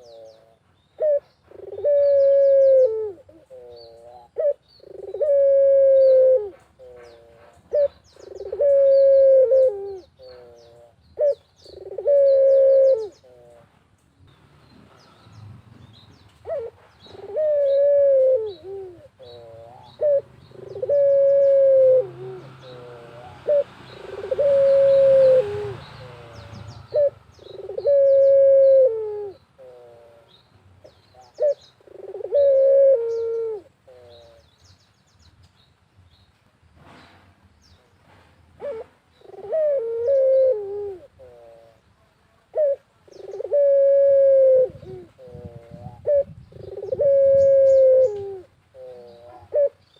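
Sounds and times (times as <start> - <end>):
small birds chirping: 0.0 - 5.3, 6.0 - 43.7, 44.7 - 49.9
dove cooing: 0.0 - 13.7, 16.4 - 30.4, 31.1 - 34.5, 38.6 - 41.8, 42.5 - 49.9.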